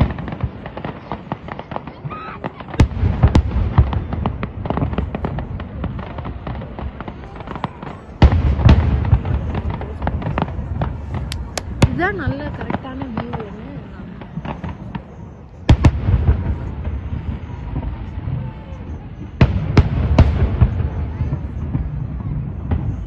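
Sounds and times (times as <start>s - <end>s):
fireworks crackling pops: 0.0s - 23.0s
fireworks shells booming: 0.0s - 23.0s.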